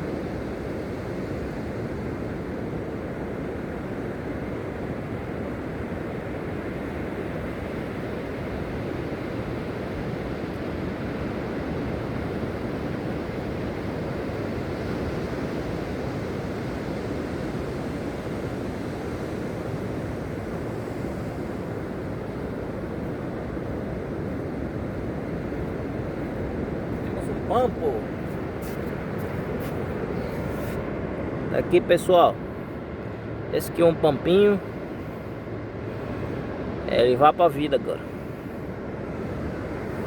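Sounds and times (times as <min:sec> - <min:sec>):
ocean surf washing ashore: 0:00.0 - 0:40.0.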